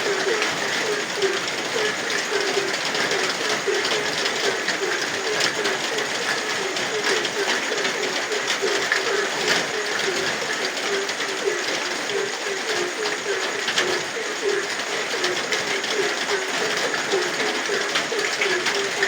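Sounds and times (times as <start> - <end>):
frogs croaking: 0.0 - 19.0
steady rain: 0.0 - 19.0.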